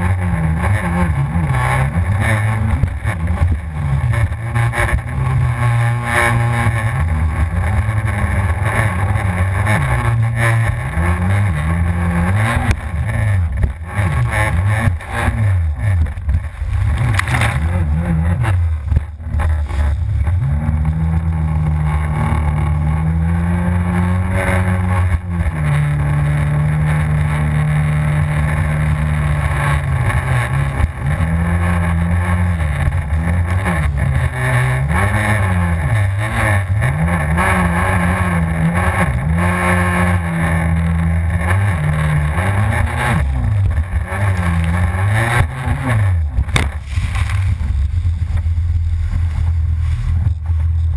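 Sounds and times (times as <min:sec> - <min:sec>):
jet ski engine revving: 0:00.0 - 0:50.9.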